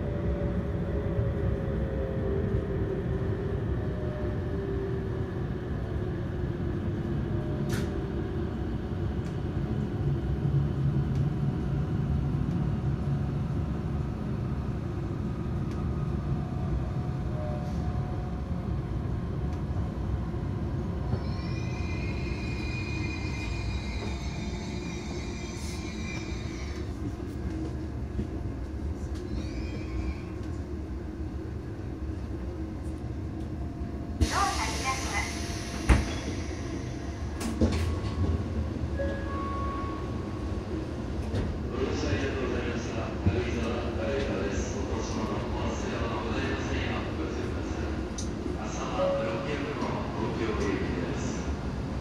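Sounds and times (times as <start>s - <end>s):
train rumble from inside car: 5.8s - 52.0s.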